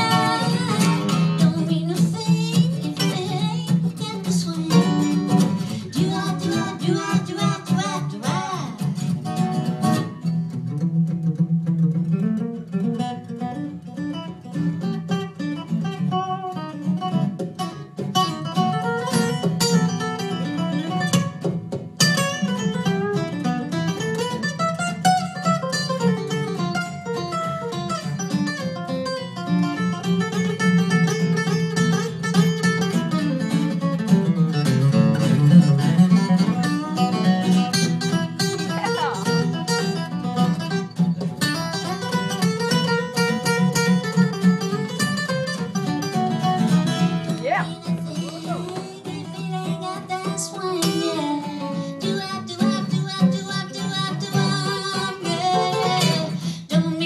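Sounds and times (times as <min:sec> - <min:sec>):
acoustic guitars playing: 0:00.0 - 0:57.0.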